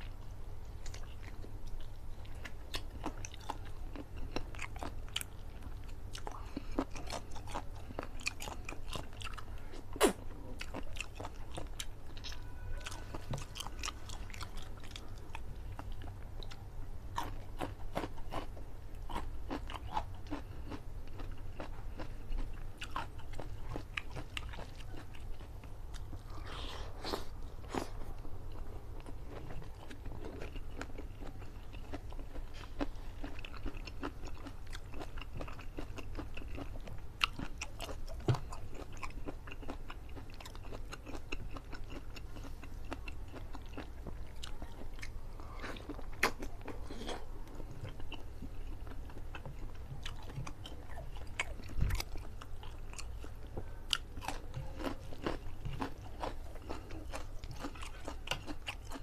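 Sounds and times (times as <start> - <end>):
steady low hum: 0.0 - 59.0
person chewing and biting: 0.8 - 16.6, 17.2 - 59.0.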